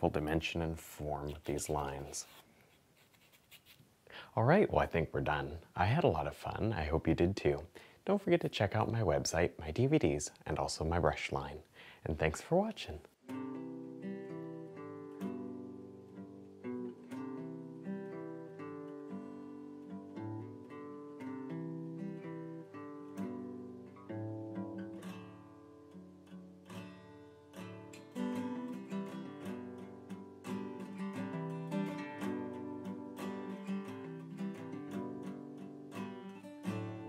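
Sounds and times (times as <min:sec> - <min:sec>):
acoustic guitar music: 0:00.0 - 0:02.4, 0:04.5 - 0:07.6, 0:12.8 - 0:37.0.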